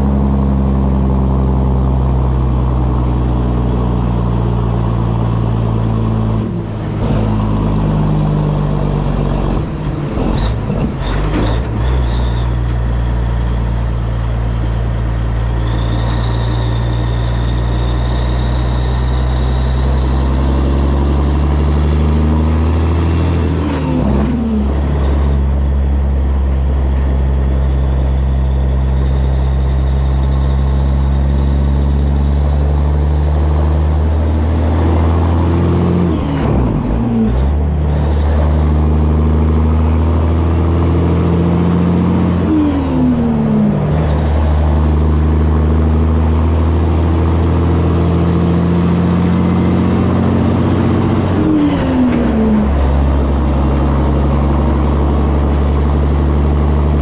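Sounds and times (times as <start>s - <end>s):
diesel truck engine accelerating: 0.0s - 57.0s.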